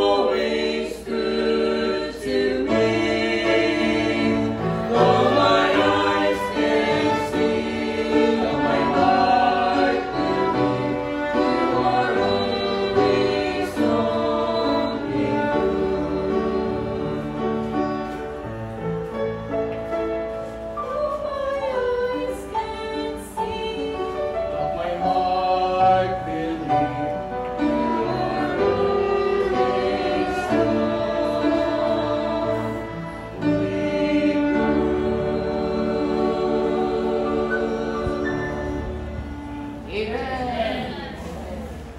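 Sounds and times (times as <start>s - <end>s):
vocal quartet singing gospel: 0.0s - 18.8s, 20.4s - 41.9s
piano accompaniment: 0.0s - 41.9s.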